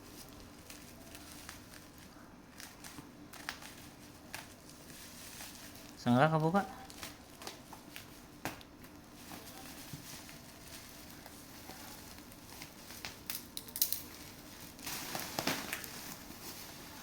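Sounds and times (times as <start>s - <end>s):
packaging being opened: 0.1s - 6.0s, 6.8s - 17.0s.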